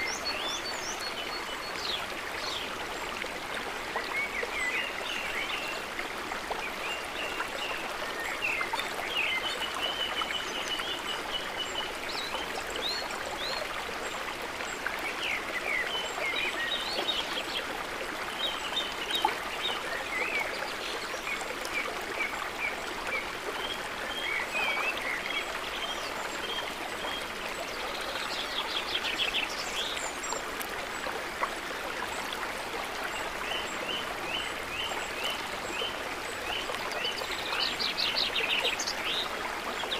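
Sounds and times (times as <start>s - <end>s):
trickling gurgling water: 0.0s - 39.9s.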